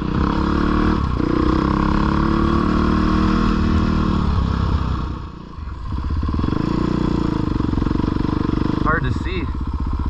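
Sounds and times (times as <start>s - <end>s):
dirt bike engine: 0.0s - 10.0s.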